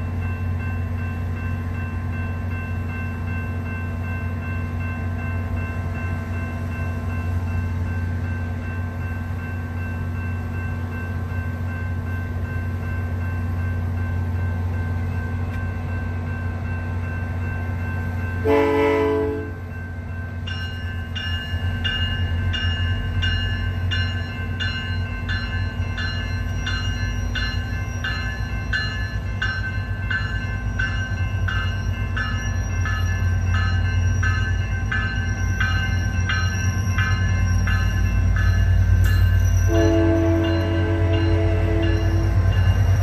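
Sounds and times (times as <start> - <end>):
railroad crossing bell ringing: 0.0 - 43.0
train rumbling: 0.0 - 43.0.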